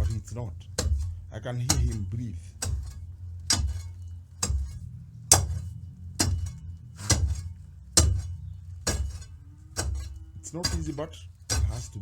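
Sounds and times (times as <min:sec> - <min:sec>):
metal tool striking concrete: 0:00.0 - 0:12.0.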